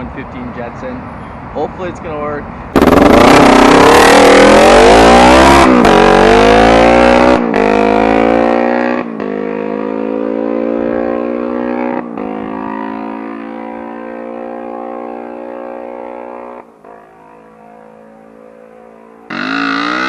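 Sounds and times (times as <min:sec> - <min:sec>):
motorcycle engine accelerating: 0:02.7 - 0:20.0.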